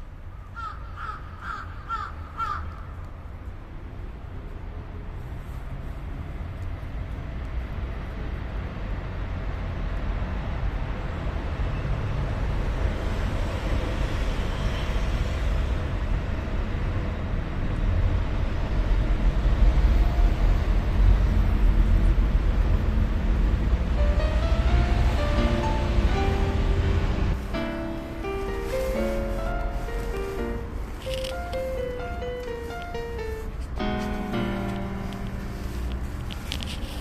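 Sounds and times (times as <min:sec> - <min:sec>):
low rumble of vehicles: 0:00.0 - 0:37.0.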